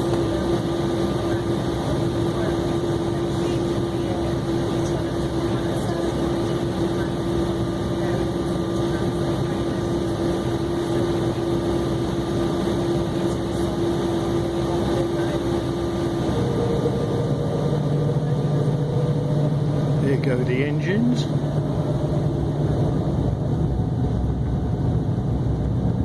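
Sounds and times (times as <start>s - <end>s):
airplane cabin engine hum: 0.0s - 26.0s.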